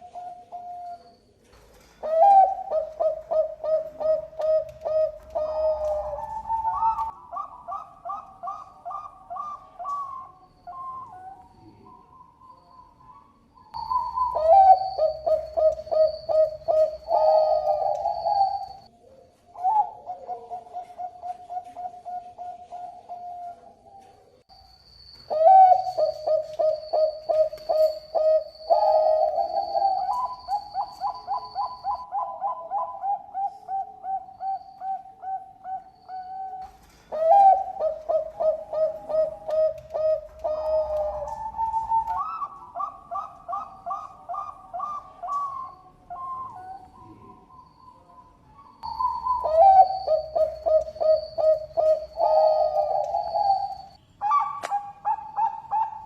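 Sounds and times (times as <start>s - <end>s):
dove cooing: 0.0s - 24.7s, 25.3s - 56.0s.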